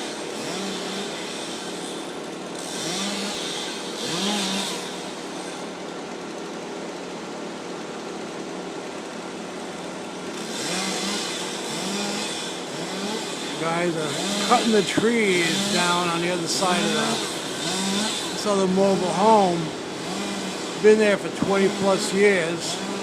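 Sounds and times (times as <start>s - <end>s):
chainsaw running: 0.0s - 23.0s.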